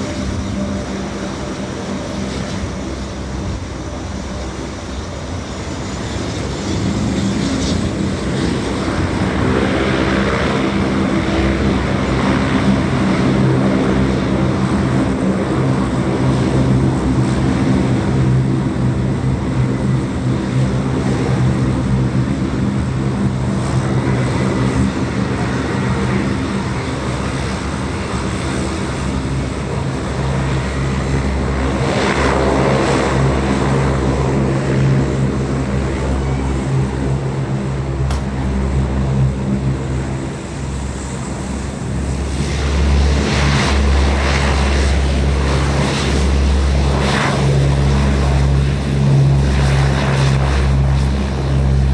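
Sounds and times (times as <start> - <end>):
turboprop engines droning: 0.0 - 51.9.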